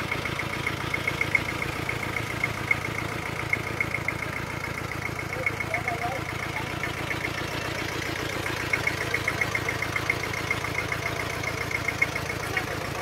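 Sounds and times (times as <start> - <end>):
tractor diesel engine chugging: 0.0 - 13.0.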